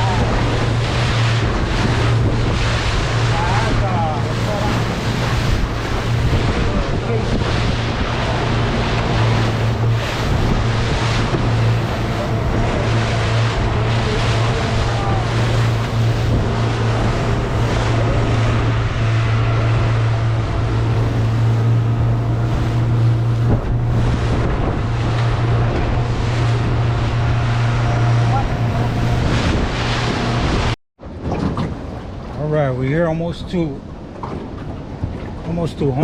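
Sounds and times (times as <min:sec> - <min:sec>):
wind buffeting microphone: 0:00.0 - 0:32.4
boat engine droning: 0:00.0 - 0:36.0
water rushing past hull: 0:00.0 - 0:36.0.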